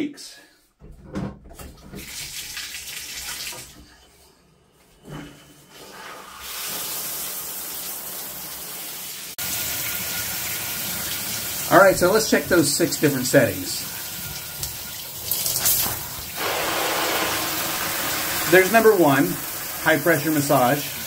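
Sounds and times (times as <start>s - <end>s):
shower water spraying into tub: 2.0s - 3.8s, 5.8s - 21.0s.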